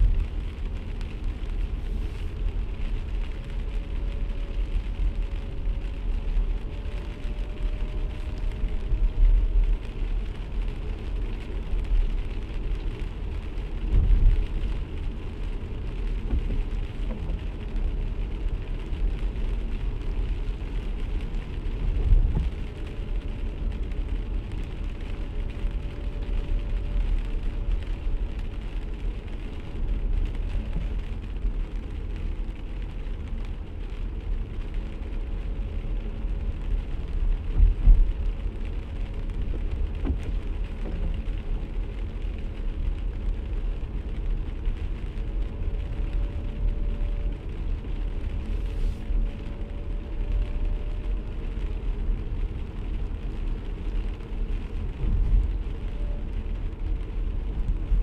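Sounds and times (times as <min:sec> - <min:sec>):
car driving on wet road: 0:00.0 - 0:58.0
rain falling on car: 0:00.0 - 0:58.0.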